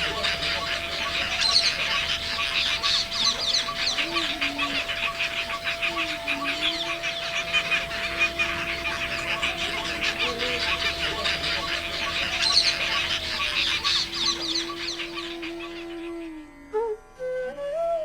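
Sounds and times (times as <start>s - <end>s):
many birds chirping: 0.0s - 17.3s.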